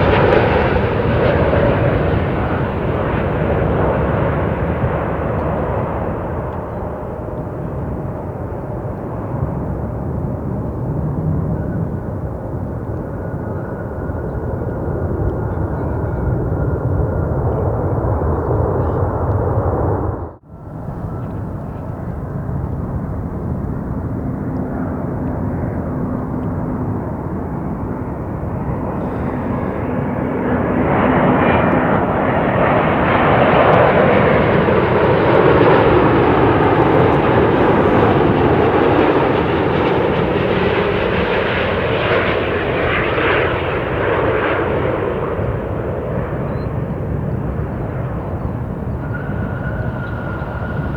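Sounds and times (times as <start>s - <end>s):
jet engine noise: 0.0s - 50.9s
jet passing close by: 0.0s - 50.9s.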